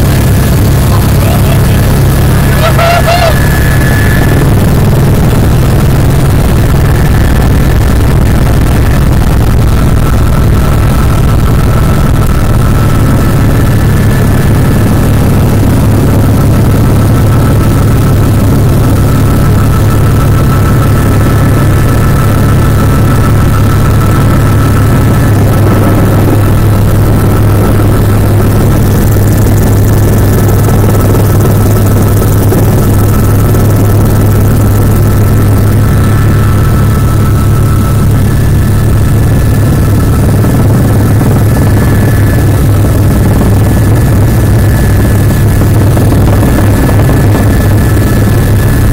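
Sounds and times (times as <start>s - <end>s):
faint high whine: 0.0s - 48.9s
helicopter low drone: 0.0s - 48.9s.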